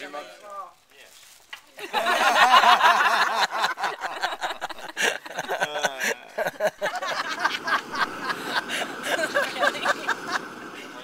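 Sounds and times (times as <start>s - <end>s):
people laughing and chattering: 1.7s - 11.0s.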